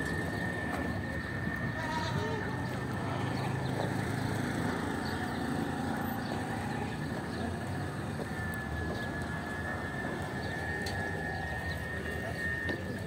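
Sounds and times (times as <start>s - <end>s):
livestock market din: 0.0s - 13.0s
steady high-pitched tone: 0.0s - 13.0s.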